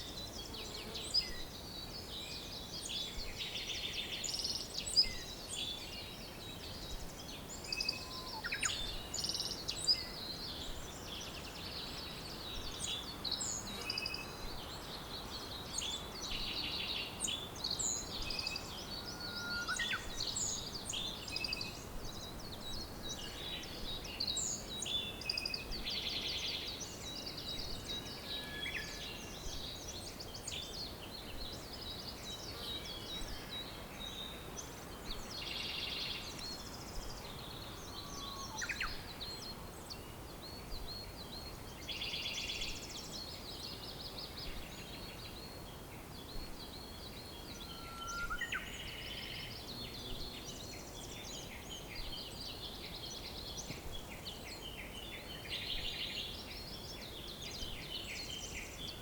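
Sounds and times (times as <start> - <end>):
songbirds singing: 0.0 - 59.0
steady background hiss: 0.0 - 59.0.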